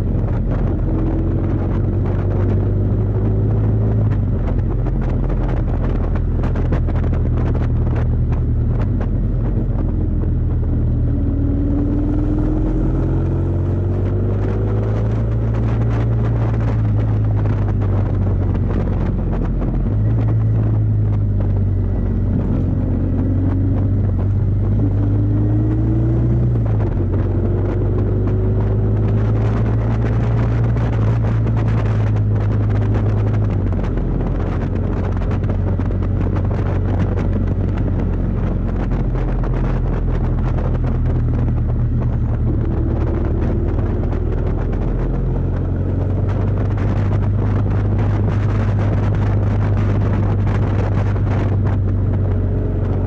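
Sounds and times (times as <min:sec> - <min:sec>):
motorcycle engine running: 0:00.0 - 0:53.0
wind noise on microphone: 0:00.0 - 0:53.0.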